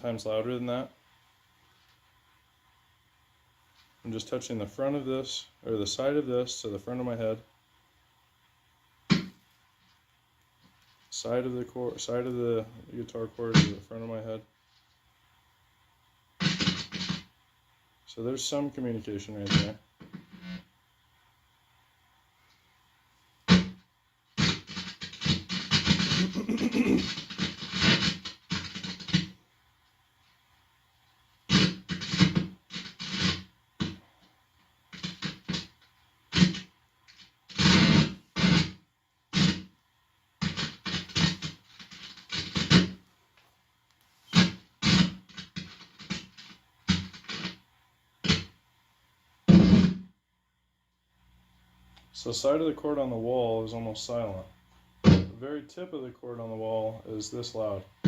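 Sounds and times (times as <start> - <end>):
guitar amplifier hum and crackle: 0.0 - 50.2, 50.8 - 58.0.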